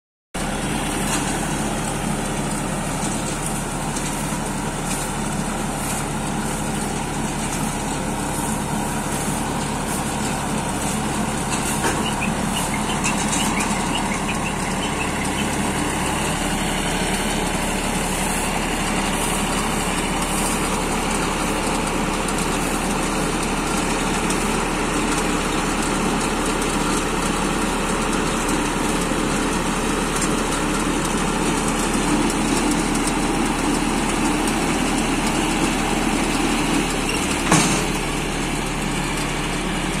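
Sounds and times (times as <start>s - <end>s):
round baler rollers running: 0.4s - 40.0s
tractor diesel engine running: 0.4s - 40.0s.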